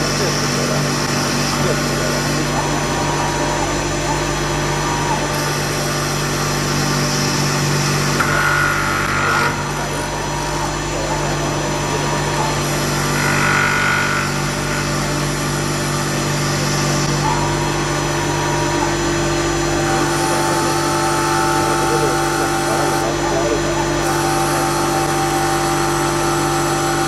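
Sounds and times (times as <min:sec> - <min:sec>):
wood lathe humming: 0:00.0 - 0:27.0.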